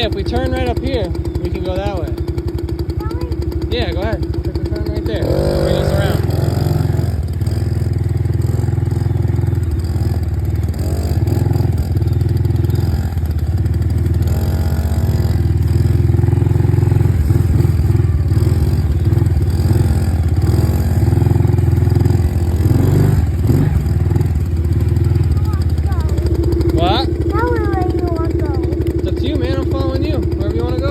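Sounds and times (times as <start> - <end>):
dirt bike engine running: 0.0 - 30.9.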